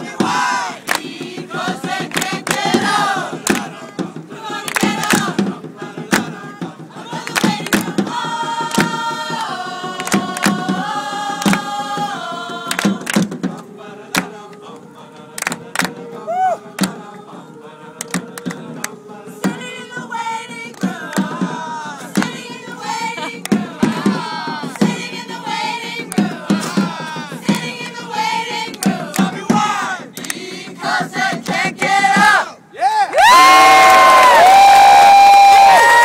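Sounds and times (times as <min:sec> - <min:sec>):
choir singing unaccompanied: 0:00.0 - 0:32.8.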